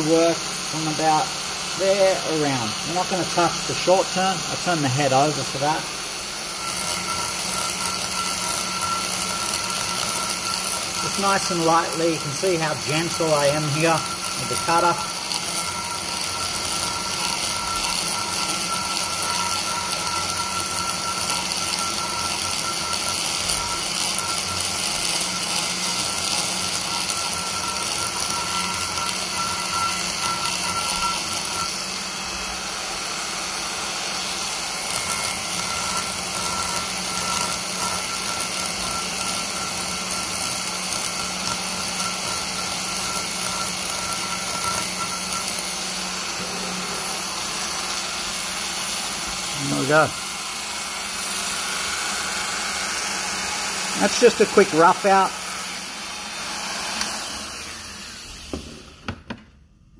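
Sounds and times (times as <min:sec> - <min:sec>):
die grinder whining: 0:00.0 - 0:59.4.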